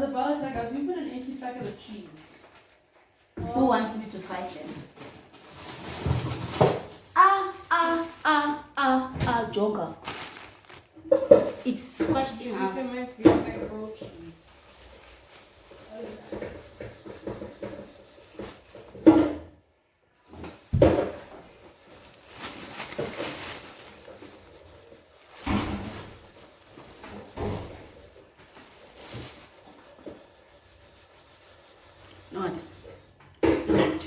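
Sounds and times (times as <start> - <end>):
kitchen clatter and rustling: 1.5 - 7.2, 9.1 - 19.6, 20.2 - 30.9, 32.7 - 34.0.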